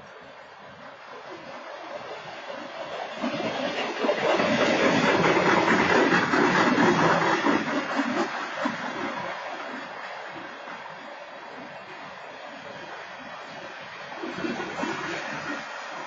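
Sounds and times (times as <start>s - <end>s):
freight train cars rolling: 0.0s - 16.0s.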